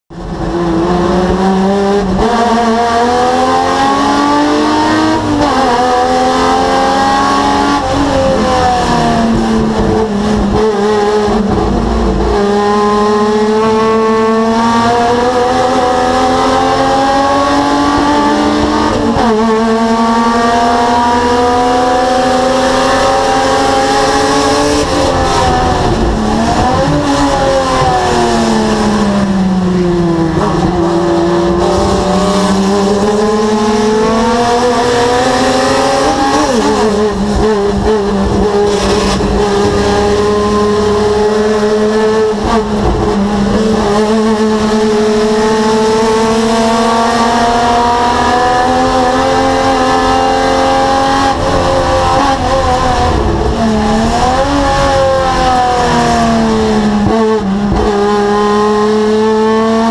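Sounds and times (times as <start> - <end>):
race car engine accelerating: 0.1 - 59.9.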